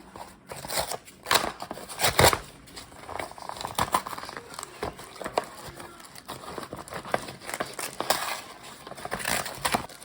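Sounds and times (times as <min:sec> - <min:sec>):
crinkling and rustling handling: 0:00.0 - 0:10.0.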